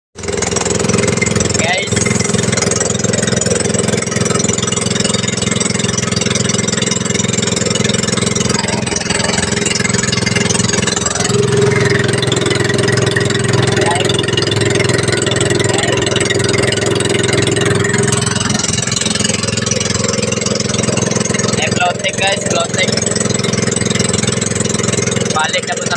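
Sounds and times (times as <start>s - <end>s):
engine running under load: 0.2s - 25.9s
higher steady tone: 0.2s - 25.9s.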